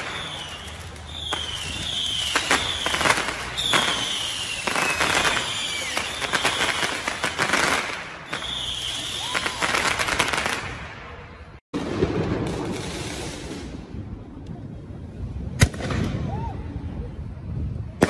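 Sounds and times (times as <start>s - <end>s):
high whistling firework: 0.0s - 14.0s, 15.5s - 18.0s
fireworks crackling and popping: 0.0s - 16.5s.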